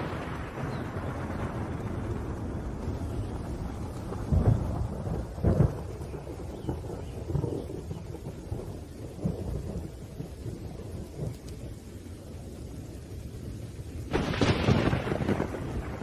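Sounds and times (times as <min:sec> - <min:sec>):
sharp close thunderclap: 0:00.0 - 0:11.8, 0:14.1 - 0:16.0
low thunder rumble: 0:00.0 - 0:16.0
rain: 0:00.0 - 0:16.0.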